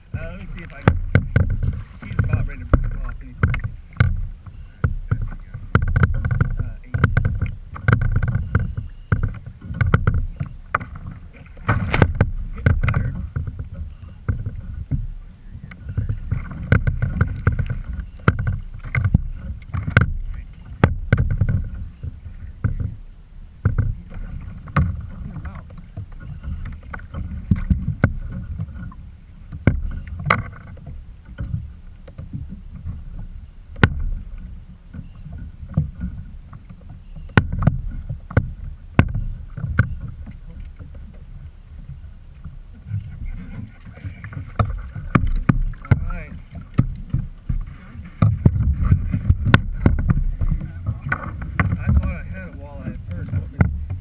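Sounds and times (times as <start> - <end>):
knocks and clicks on hull: 0.0 - 54.0
water sloshing against hull: 0.0 - 54.0.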